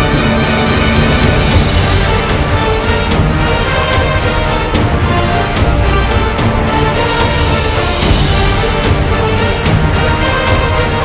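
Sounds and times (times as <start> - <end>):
soundtrack music with bass and drums: 0.0 - 11.0.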